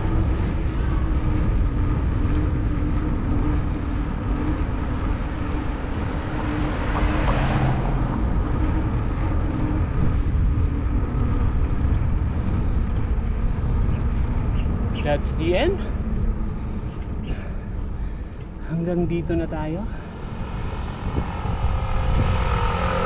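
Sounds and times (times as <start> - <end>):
car passing: 0.0 - 23.0
wind rumbling on microphone: 0.0 - 23.0.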